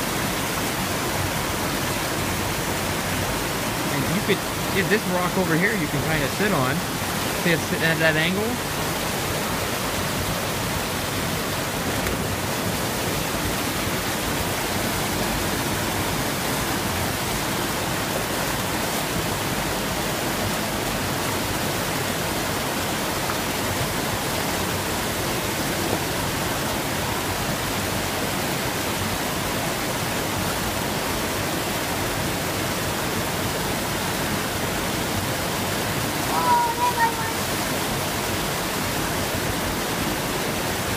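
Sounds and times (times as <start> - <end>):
creek water pouring over weir: 0.0 - 40.9.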